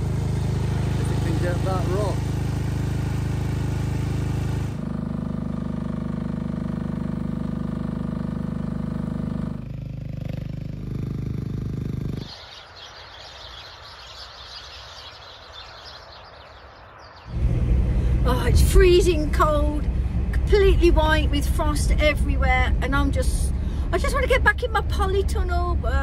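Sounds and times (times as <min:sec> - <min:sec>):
excavator engine running: 0:00.0 - 0:12.4, 0:17.3 - 0:26.0.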